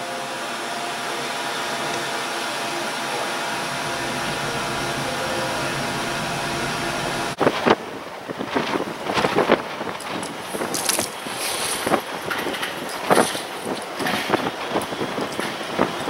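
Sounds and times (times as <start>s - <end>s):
air blower whirring: 0.0s - 16.0s
wind buffeting microphone: 2.8s - 16.0s.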